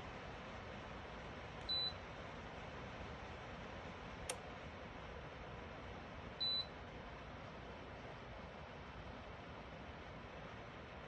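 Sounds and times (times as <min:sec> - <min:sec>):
space heater fan hiss: 0:00.0 - 0:11.0.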